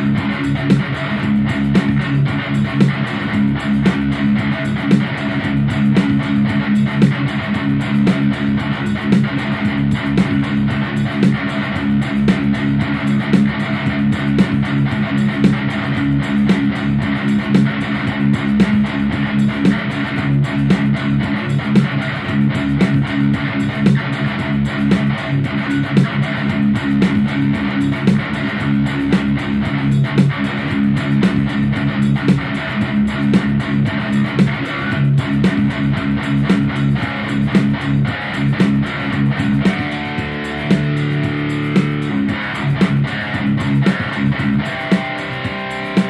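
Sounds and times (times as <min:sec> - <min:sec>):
guitar instrumental music: 0:00.0 - 0:46.0.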